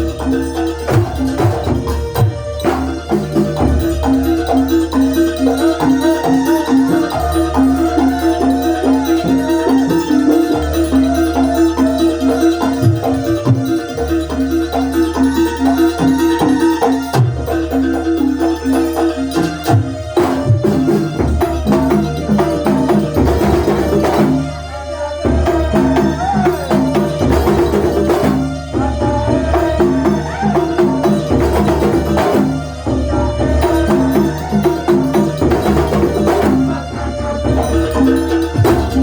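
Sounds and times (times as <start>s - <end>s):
hand drums: 0.0s - 39.0s
jingling percussion: 0.0s - 39.0s
sustained melody: 0.0s - 39.0s.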